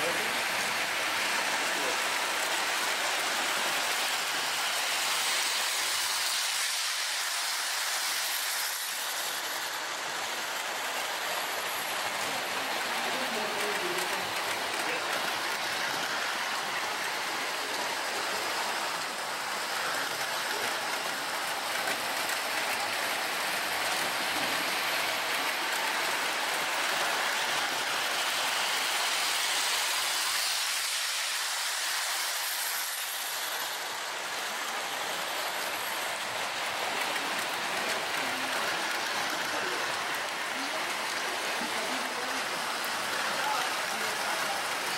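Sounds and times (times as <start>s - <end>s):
model train wheels on rail: 0.0s - 44.9s.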